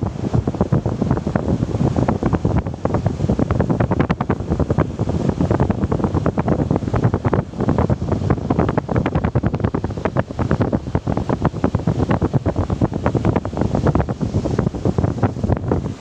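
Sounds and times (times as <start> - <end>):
sea: 0.0 - 16.0
wind buffeting microphone: 0.0 - 16.0.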